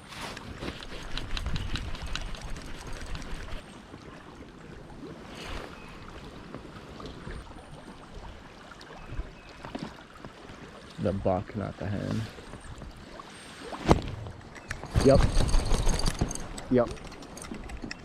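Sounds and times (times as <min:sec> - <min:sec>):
river water splashing: 0:00.0 - 0:18.0.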